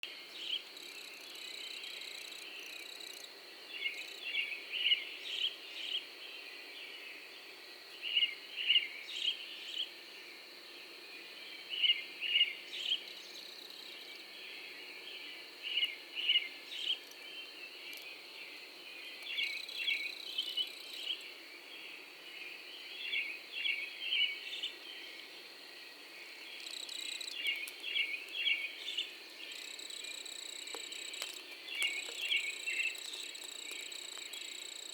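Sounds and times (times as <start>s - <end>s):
high insect drone: 0.1s - 34.9s
bird chirping: 0.3s - 9.9s, 11.2s - 34.9s.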